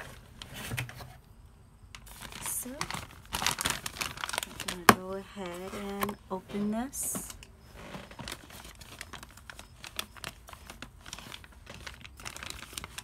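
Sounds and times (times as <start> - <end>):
plastic bag crinkling: 1.9 - 13.0.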